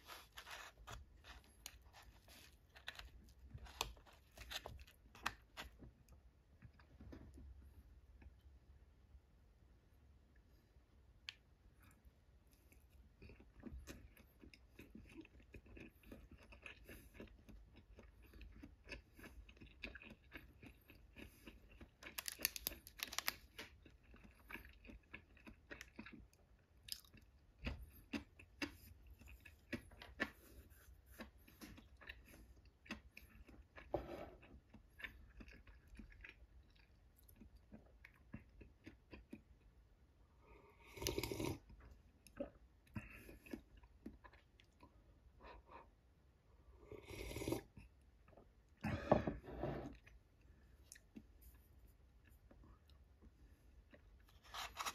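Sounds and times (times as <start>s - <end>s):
person chewing: 0.0s - 6.9s, 11.3s - 45.9s, 46.8s - 54.9s.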